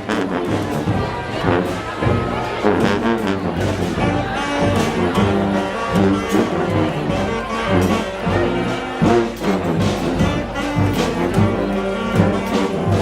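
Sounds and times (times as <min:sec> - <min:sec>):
street brass band playing: 0:00.0 - 0:13.0.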